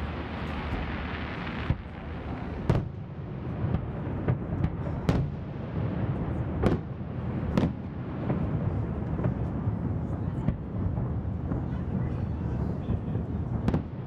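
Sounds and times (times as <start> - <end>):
fireworks bangs echoing: 0.0 - 11.6, 13.2 - 14.0
low rumble: 0.0 - 11.7.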